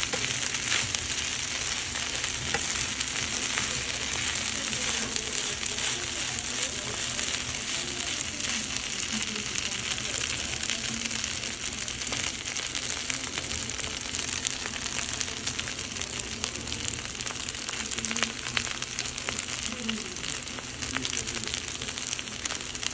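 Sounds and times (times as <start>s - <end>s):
food sizzling on hot plate: 0.0s - 22.9s.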